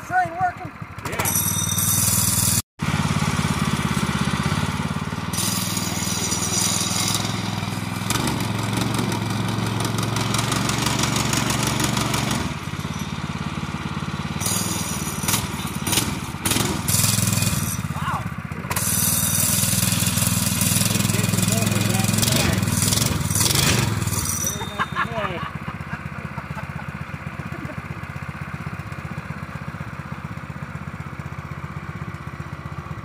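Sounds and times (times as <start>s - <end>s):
gas engine running steadily: 0.0s - 33.0s.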